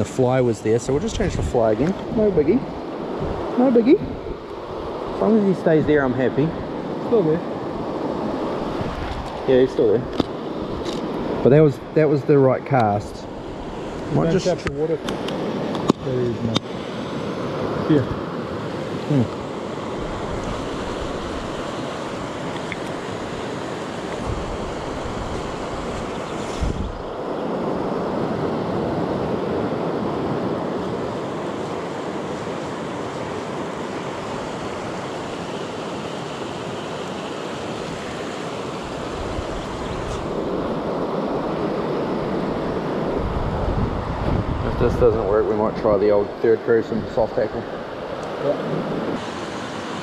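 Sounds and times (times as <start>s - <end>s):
river water rushing over stones: 4.3s - 44.2s, 47.7s - 50.0s.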